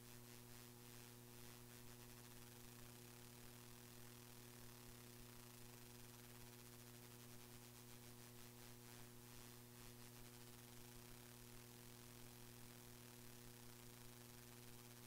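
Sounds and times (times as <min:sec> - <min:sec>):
faint electrical hum and hiss: 0:00.0 - 0:15.0.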